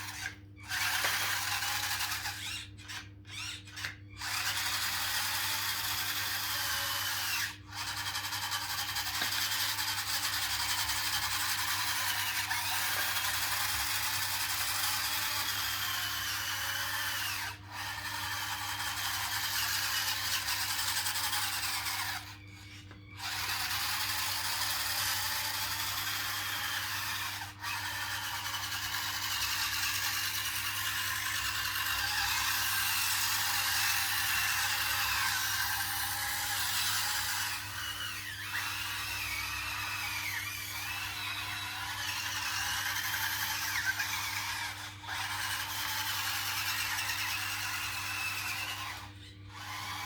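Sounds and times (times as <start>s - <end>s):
small electric motors whining: 0.0s - 50.0s.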